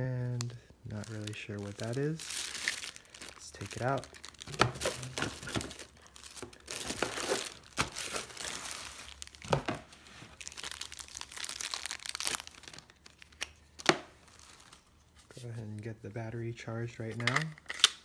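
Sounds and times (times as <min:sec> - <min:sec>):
plastic bags crinkling: 0:00.3 - 0:15.0.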